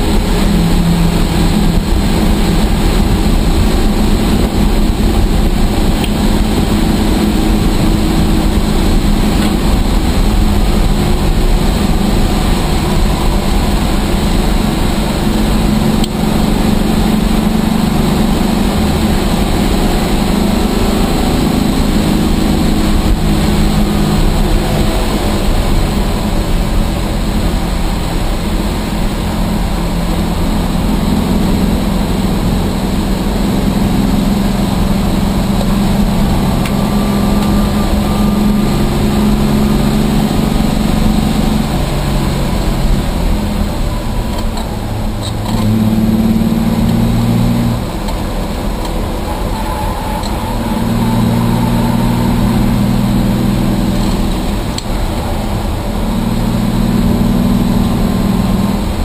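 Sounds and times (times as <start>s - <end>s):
race car engine: 0.0s - 59.0s
road and wind noise: 0.0s - 59.0s.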